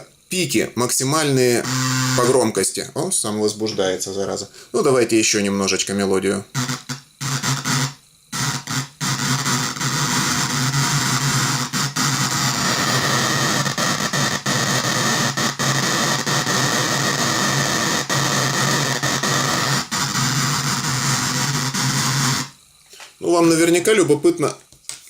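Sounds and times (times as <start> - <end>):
harsh distorted noise: 0.0 - 22.6.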